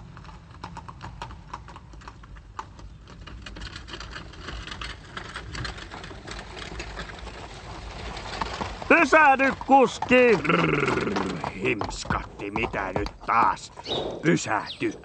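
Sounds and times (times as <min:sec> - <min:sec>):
cartoon hooves clip-clopping: 0:00.0 - 0:15.0.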